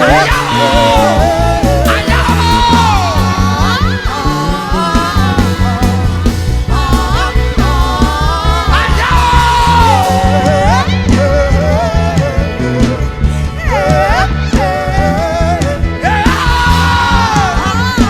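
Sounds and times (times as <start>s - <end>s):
band with bass and drums: 0.0s - 18.0s.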